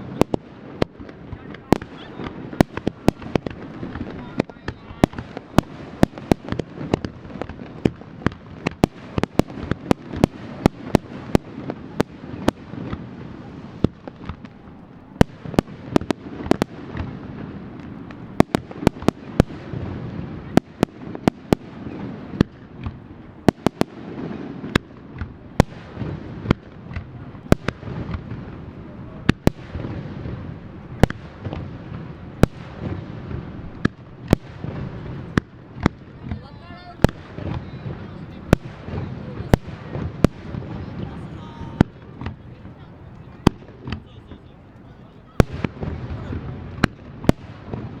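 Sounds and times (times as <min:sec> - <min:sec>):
rumble of explosions: 0:00.0 - 0:44.4
fireworks bangs: 0:00.0 - 0:48.0.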